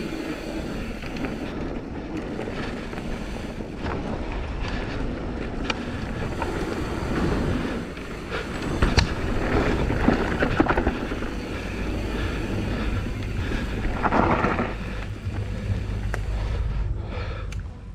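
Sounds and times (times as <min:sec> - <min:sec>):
bike scraping: 0:00.0 - 0:17.4
bike tyres rumbling on dirt: 0:00.0 - 0:17.4
bike rattling: 0:00.0 - 0:17.9.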